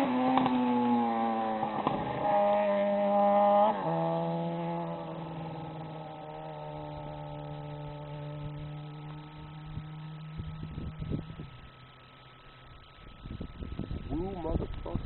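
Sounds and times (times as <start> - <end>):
motorcycle engine pulling away: 0.0 - 14.4.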